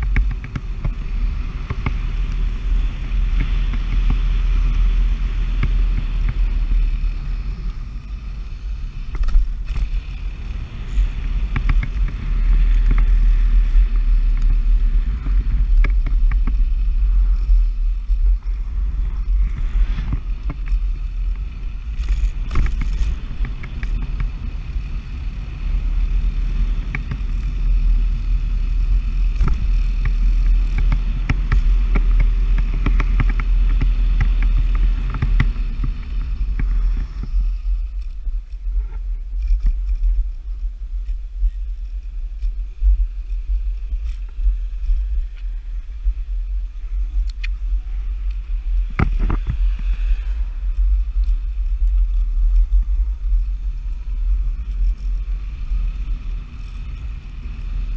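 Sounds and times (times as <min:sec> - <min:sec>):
electric scooter rumbling: 0:00.0 - 0:57.9
wind buffeting microphone: 0:00.0 - 0:57.9.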